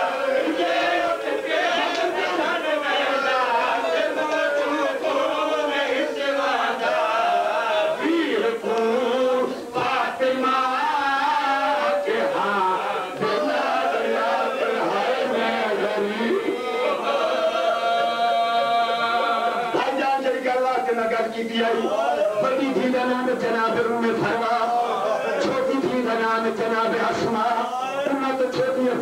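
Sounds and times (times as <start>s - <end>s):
men chanting a lament: 0.0s - 29.0s.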